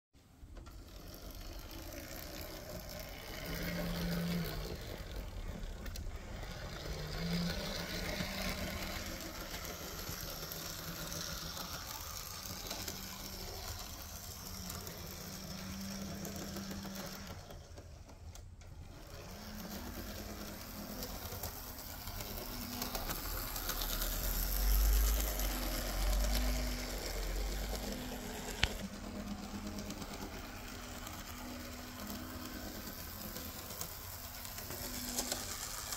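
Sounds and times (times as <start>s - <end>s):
model locomotive motor humming: 0.3s - 35.9s.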